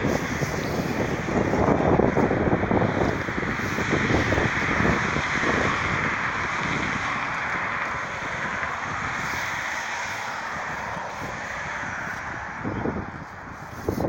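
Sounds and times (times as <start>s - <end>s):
rushing outdoor hiss: 0.0s - 14.0s
wind buffeting microphone: 0.0s - 14.0s.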